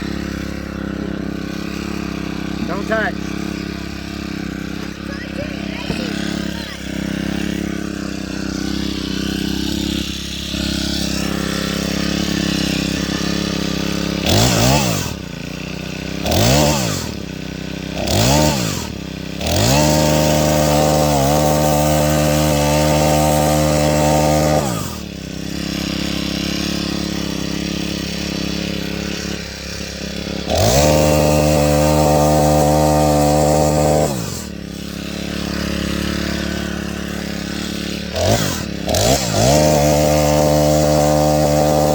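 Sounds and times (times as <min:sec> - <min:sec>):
chainsaw idling and revving: 0:00.0 - 0:41.9.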